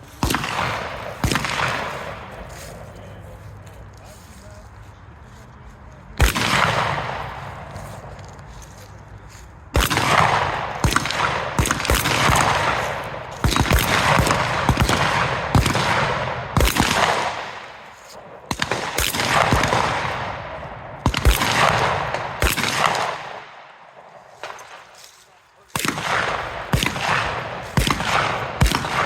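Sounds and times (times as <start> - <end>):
shotgun shots with ringing echo: 0.0 - 4.6, 6.1 - 29.0.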